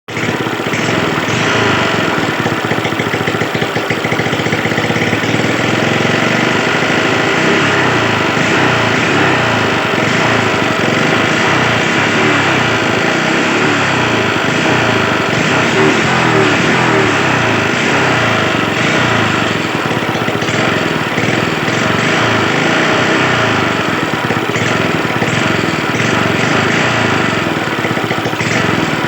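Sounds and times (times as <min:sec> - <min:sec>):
old engine running: 0:00.0 - 0:29.0.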